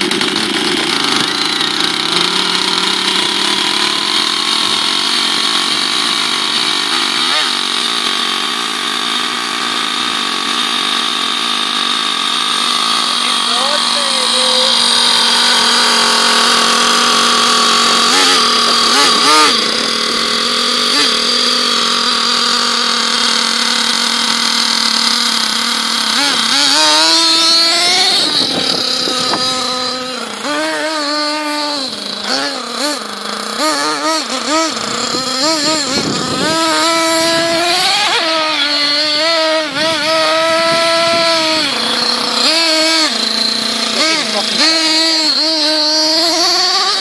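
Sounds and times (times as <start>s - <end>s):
small nitro engine idling: 0.0s - 47.0s
small nitro engine revving: 0.0s - 47.0s.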